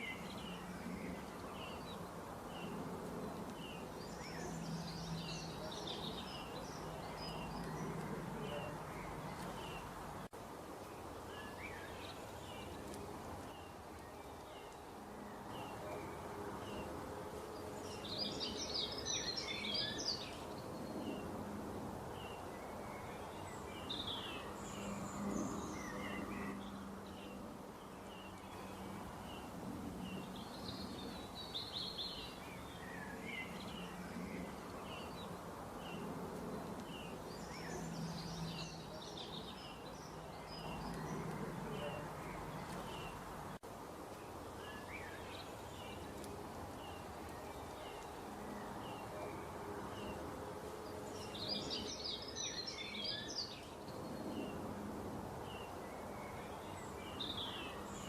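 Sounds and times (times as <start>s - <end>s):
small birds chirping: 0.0s - 54.8s, 55.4s - 58.0s
birds twittering rapidly: 0.0s - 58.0s.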